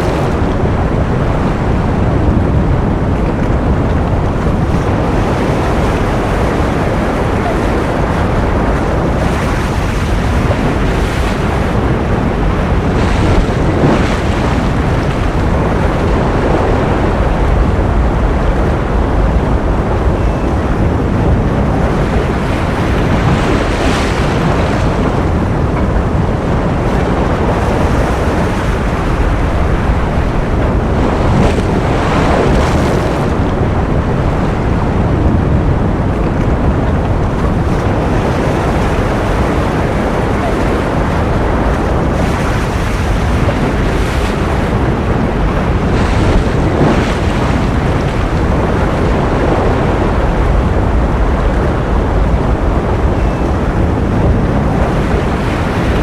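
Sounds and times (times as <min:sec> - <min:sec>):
ocean surf: 0:00.0 - 0:56.0.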